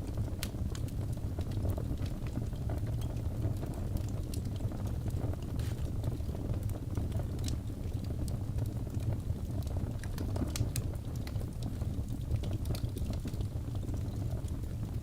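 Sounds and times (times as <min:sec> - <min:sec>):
fire rumbling: 0:00.0 - 0:15.0
wood crackling and popping: 0:00.0 - 0:15.0.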